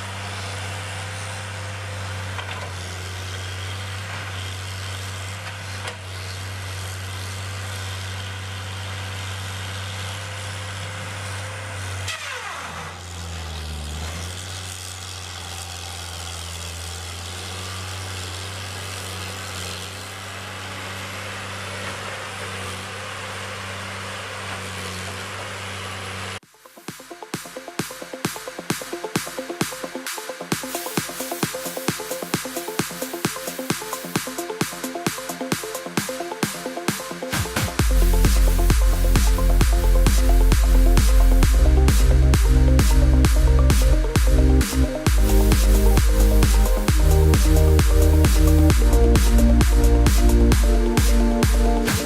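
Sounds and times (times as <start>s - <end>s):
engine running steadily: 0.0s - 26.4s, 30.6s - 52.0s.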